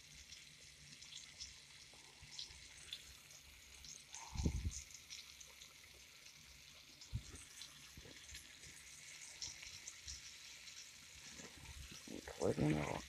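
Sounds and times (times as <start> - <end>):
pork chop crackling in hot oil: 0.0 - 13.0.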